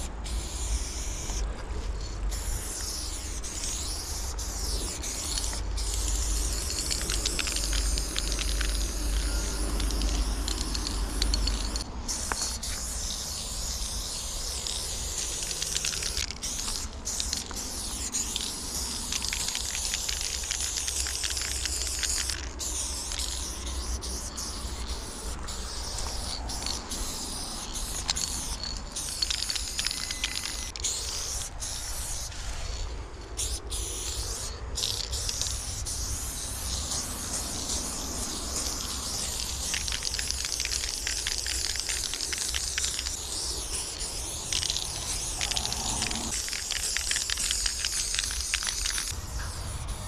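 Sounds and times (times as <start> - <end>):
spray paint can hissing: 0.0 - 50.0.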